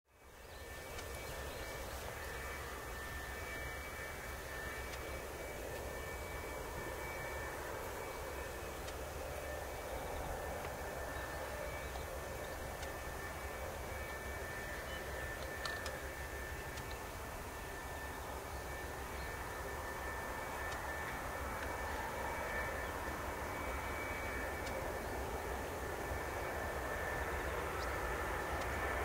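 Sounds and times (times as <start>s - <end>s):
distant jet engine rumble: 0.2s - 29.0s.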